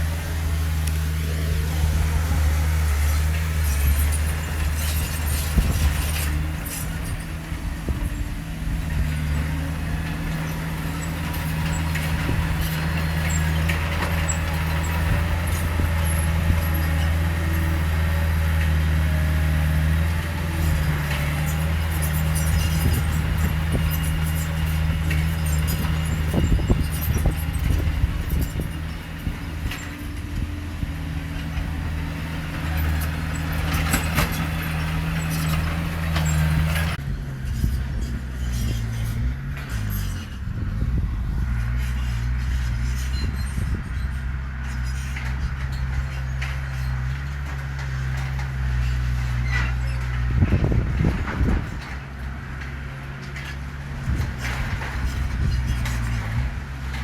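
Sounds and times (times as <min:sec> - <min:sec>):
clanks and rattles: 0:00.0 - 0:57.0
heavy diesel engine droning: 0:00.0 - 0:57.0.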